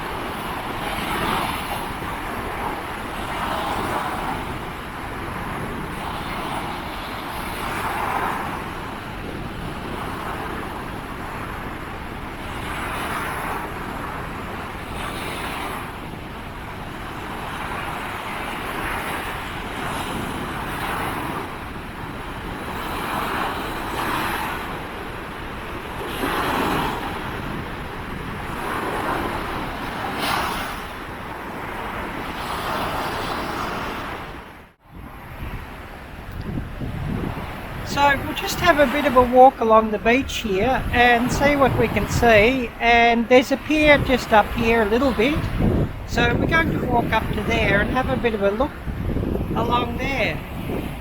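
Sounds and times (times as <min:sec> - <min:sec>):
waves breaking on a beach: 0:00.0 - 0:51.0
wind: 0:00.0 - 0:51.0.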